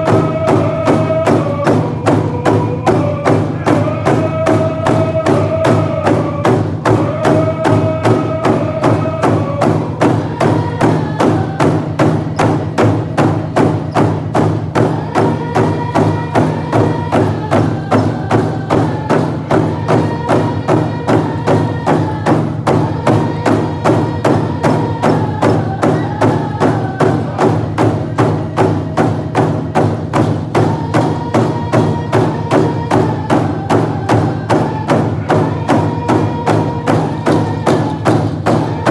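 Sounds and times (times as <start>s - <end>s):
group singing: 0.0s - 38.9s
hand drums beating: 0.0s - 38.9s.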